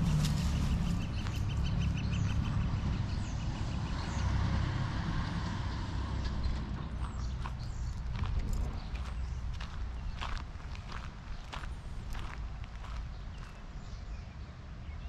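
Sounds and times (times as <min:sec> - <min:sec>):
birds chirping: 0:00.0 - 0:15.0
distant road traffic rumble: 0:00.0 - 0:15.0.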